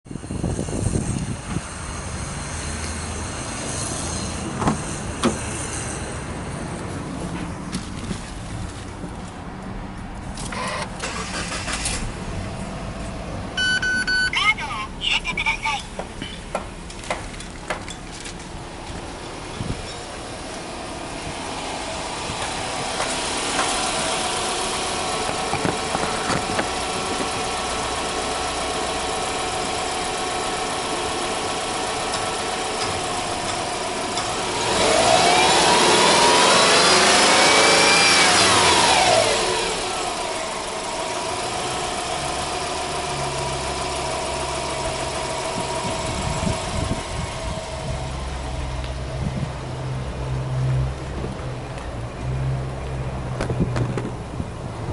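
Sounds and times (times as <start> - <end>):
car engine idling and revving: 0.0 - 54.9.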